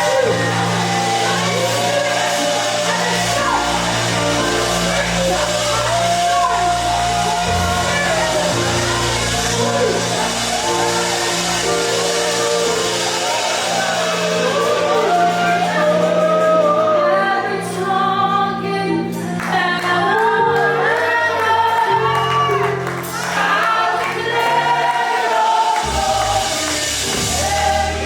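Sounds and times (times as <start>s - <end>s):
bass: 0.0s - 25.2s, 25.8s - 28.0s
keyboard chords: 0.0s - 28.0s
people singing worship music: 0.0s - 28.0s.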